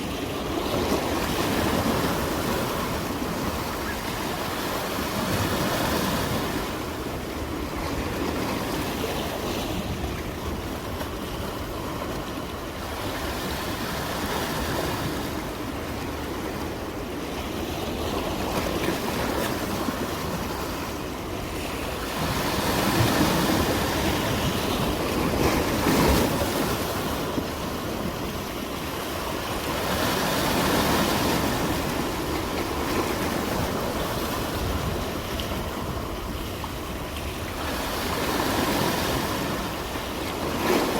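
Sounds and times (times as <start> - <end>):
sea waves washing on shore: 0.0 - 40.9.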